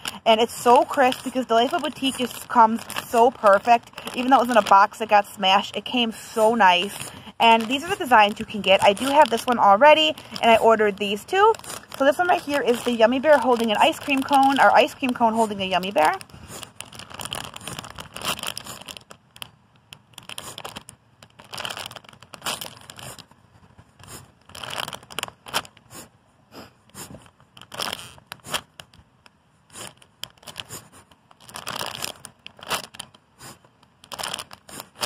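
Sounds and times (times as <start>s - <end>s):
plastic bag crinkling: 0.0s - 26.1s, 26.9s - 35.0s.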